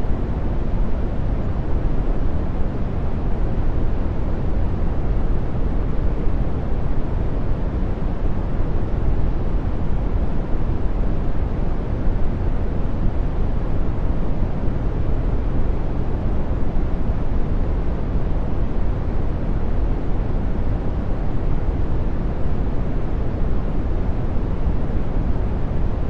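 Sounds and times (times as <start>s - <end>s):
brown noise rush: 0.0s - 26.0s.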